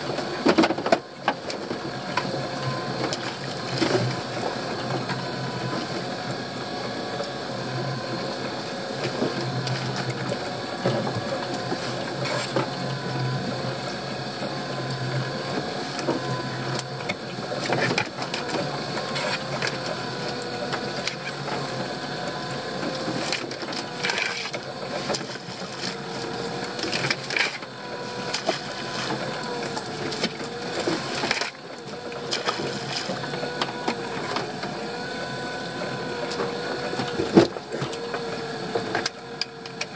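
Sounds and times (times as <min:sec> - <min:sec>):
boat motor whining: 0:00.0 - 0:39.9.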